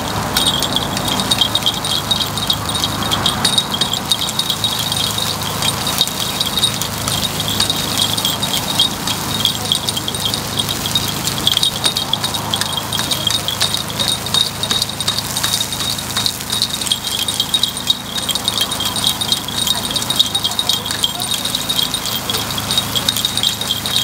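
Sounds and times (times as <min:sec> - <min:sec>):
metal picks clicking on griddle: 0:00.0 - 0:24.0.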